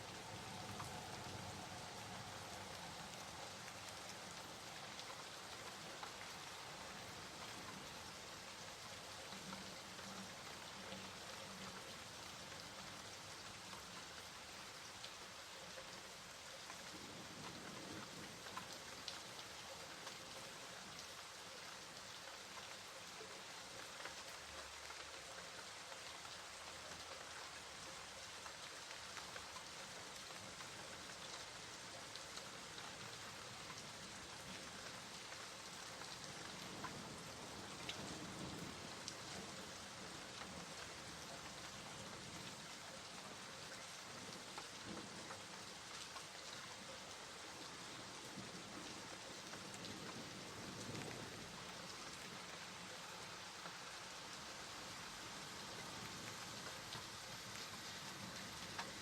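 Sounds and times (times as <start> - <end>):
raindrops ticking on a surface: 0.0 - 59.0
steady rain hiss: 0.0 - 59.0.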